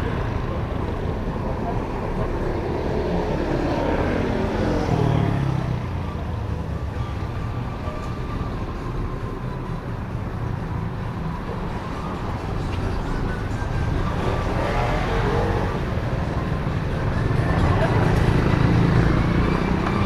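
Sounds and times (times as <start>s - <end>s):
steady traffic rumble: 0.0s - 20.0s
vehicle approaching: 0.0s - 20.0s.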